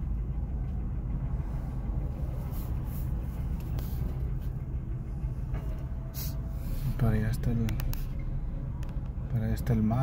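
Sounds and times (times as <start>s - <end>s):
car engine idling: 0.0s - 10.0s
traffic passing outside: 0.0s - 10.0s.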